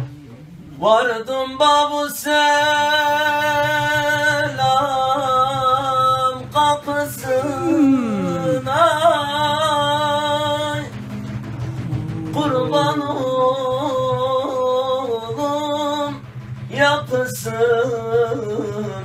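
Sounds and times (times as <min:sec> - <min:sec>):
man singing: 0:00.8 - 0:11.0, 0:11.8 - 0:19.0.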